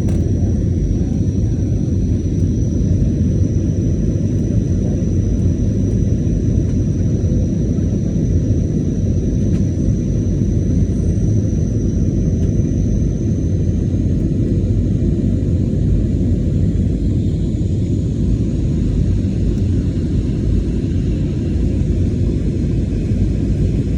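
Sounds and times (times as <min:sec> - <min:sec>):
jet engines and airflow rumble: 0:00.0 - 0:23.9.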